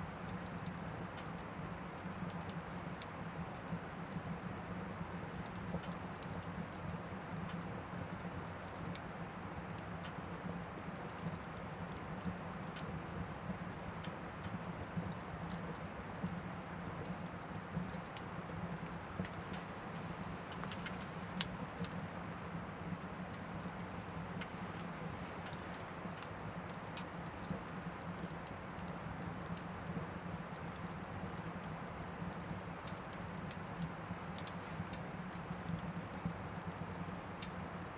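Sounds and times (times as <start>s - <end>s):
wood fire crackles and pops: 0.0s - 37.9s.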